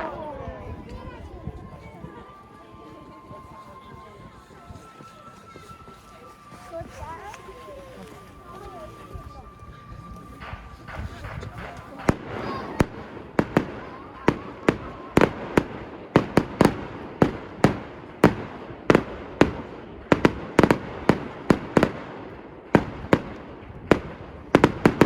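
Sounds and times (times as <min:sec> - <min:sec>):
fireworks bursting with sharp bangs: 0:03.2 - 0:25.0.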